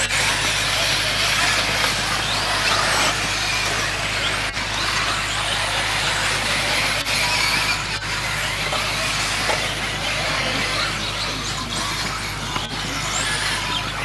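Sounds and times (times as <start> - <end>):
tyres on dirt: 0.0 - 14.0.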